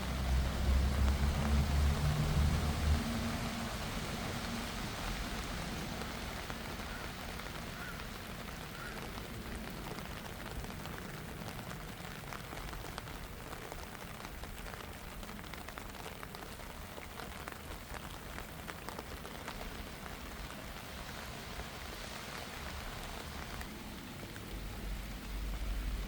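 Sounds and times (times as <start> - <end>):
raindrops ticking on umbrella: 0.0 - 26.0
steady rain falling: 0.0 - 26.0.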